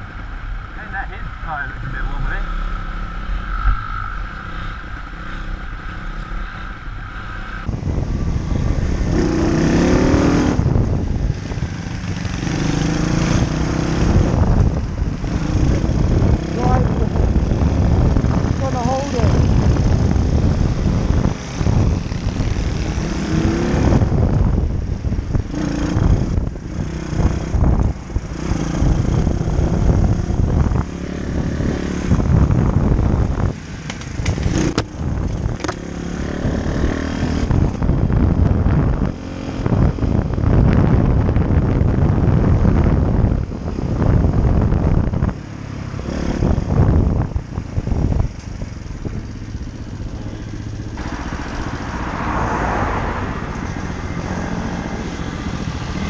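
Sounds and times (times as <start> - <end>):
wind noise on microphone: 3.2 - 56.0
motorbike engine revving: 7.3 - 56.0.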